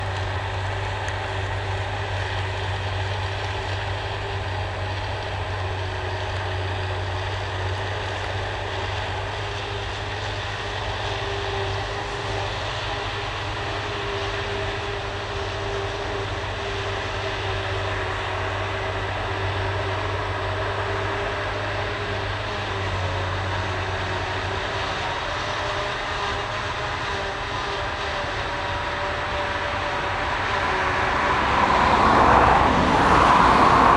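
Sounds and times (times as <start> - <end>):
harvester engine drone: 0.0 - 33.9.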